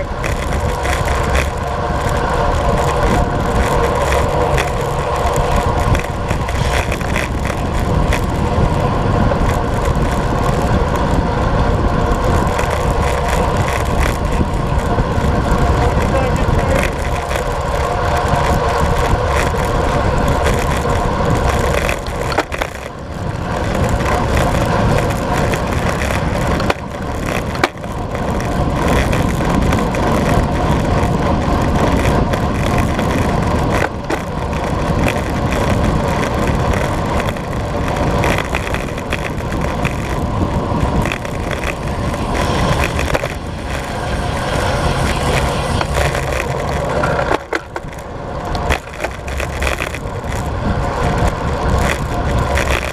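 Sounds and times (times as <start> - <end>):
bike tyres rolling on asphalt: 0.0 - 52.9
wind rushing over microphone: 0.0 - 52.9.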